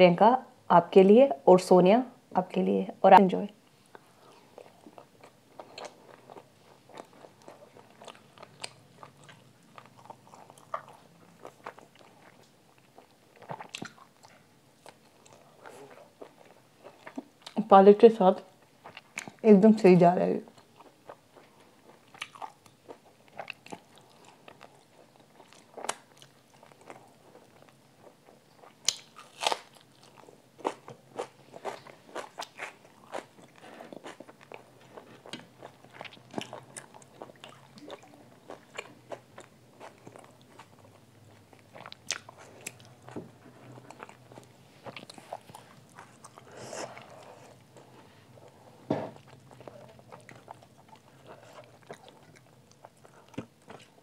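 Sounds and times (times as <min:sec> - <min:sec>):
person chewing food: 0:03.9 - 0:17.6, 0:18.6 - 0:19.4, 0:20.5 - 0:54.0.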